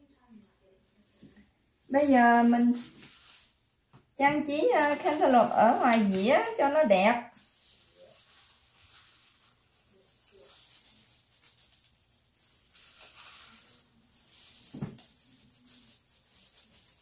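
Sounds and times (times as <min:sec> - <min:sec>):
soft handling noises: 0:00.0 - 0:17.0.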